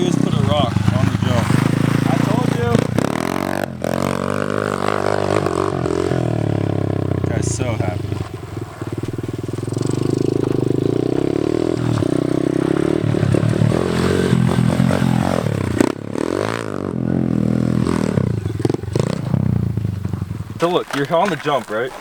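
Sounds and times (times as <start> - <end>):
motorbike engine revving: 0.0 - 21.3.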